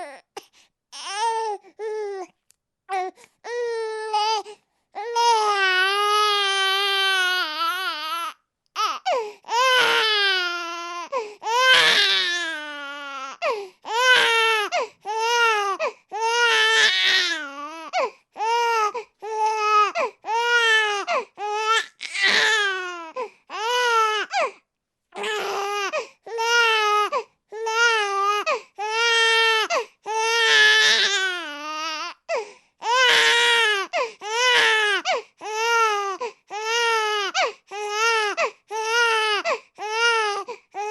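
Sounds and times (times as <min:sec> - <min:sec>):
baby crying: 0:00.0 - 0:02.3, 0:02.9 - 0:24.6, 0:25.2 - 0:40.9.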